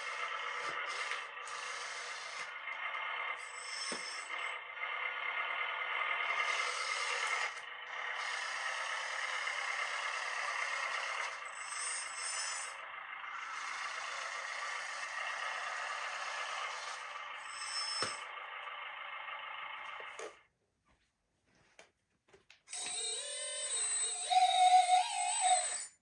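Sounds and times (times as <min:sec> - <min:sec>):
high motor whines: 0:00.0 - 0:20.4, 0:22.7 - 0:26.0
model truck mechanical whirr: 0:00.0 - 0:20.5, 0:22.7 - 0:26.0.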